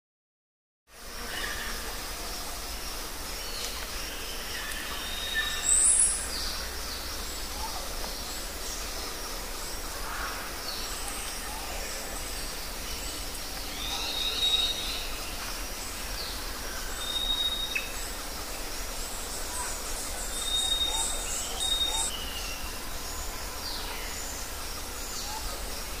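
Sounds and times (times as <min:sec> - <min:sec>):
outdoor background hiss: 0:00.9 - 0:26.0.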